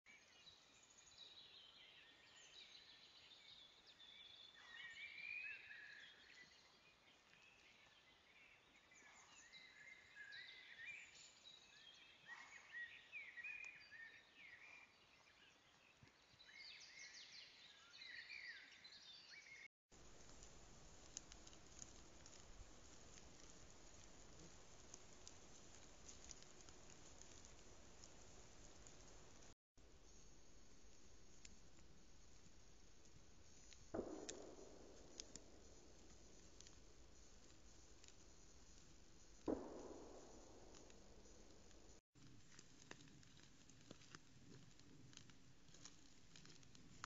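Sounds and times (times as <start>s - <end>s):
songbirds chirping: 0.1s - 42.0s.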